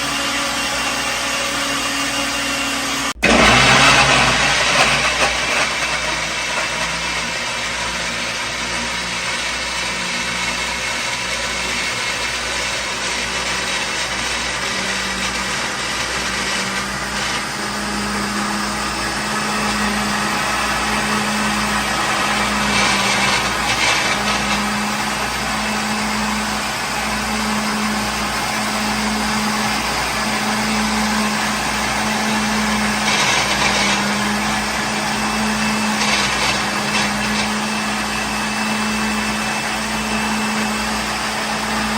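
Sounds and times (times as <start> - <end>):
blender motor whine: 0.0 - 41.9.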